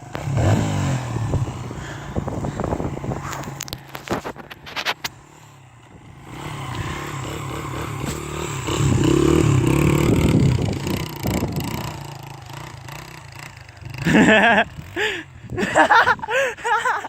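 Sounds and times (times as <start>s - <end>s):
dirt bike engine revving: 0.0s - 16.2s.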